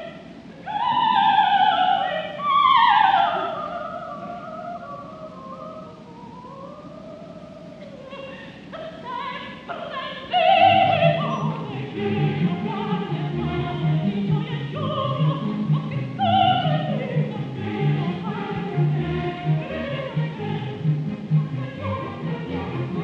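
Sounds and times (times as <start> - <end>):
soprano singing coloratura runs: 0.0 - 23.0.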